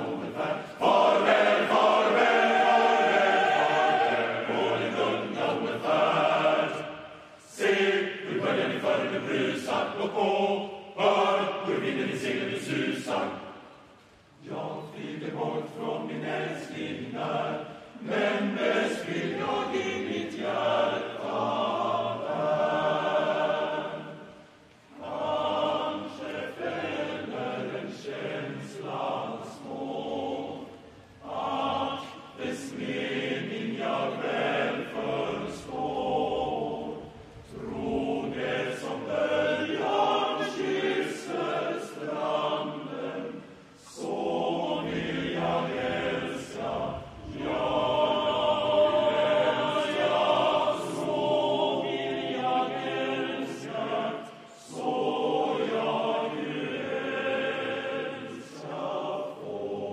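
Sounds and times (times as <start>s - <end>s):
male voice choir singing: 0.0s - 13.6s, 14.4s - 24.4s, 25.0s - 59.9s.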